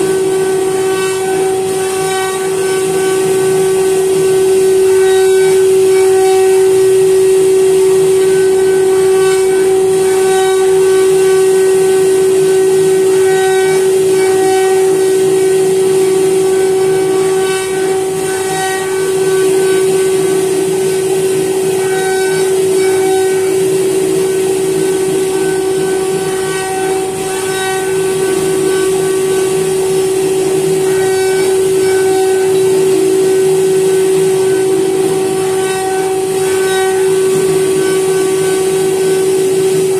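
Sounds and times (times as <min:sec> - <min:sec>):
bit cutting wood: 0:00.0 - 0:39.9
cnc router spindle whine: 0:00.0 - 0:39.9.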